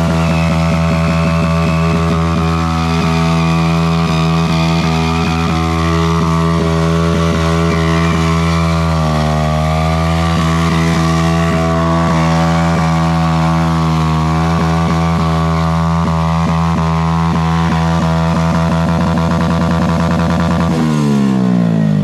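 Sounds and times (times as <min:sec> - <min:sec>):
small motorcycle engine revving high: 0:00.0 - 0:22.0.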